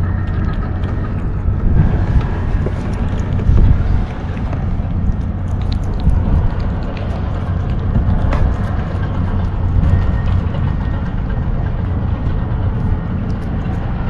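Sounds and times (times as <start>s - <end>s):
kitten chewing dry food: 0.0s - 14.0s
wind rumbling on microphone: 0.0s - 14.0s.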